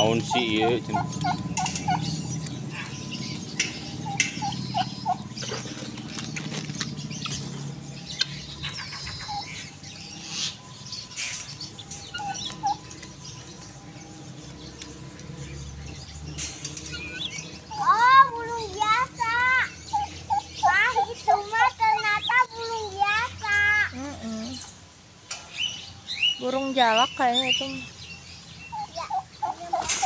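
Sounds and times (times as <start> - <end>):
turkeys chirping: 0.0 - 30.0.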